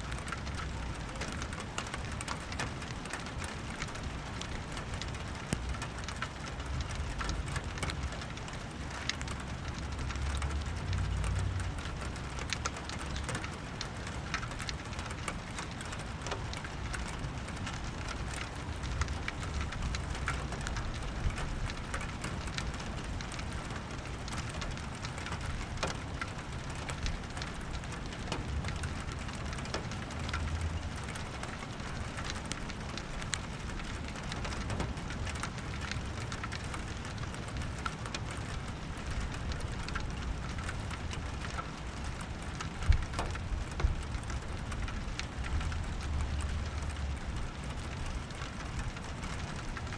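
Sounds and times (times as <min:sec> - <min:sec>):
raindrops ticking: 0:00.0 - 0:49.9
steady rain falling: 0:00.0 - 0:49.9.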